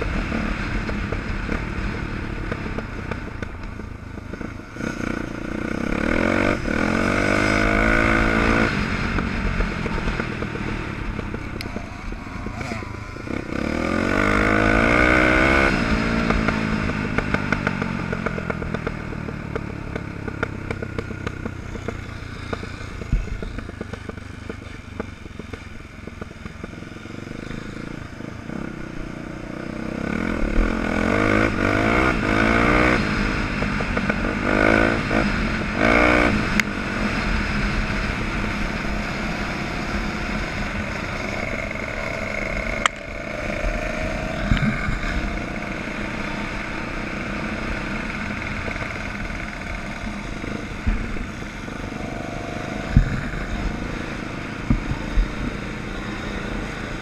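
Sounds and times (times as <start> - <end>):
off-road motorcycle engine revving: 0.0 - 57.0
rattling from rough track: 0.0 - 57.0.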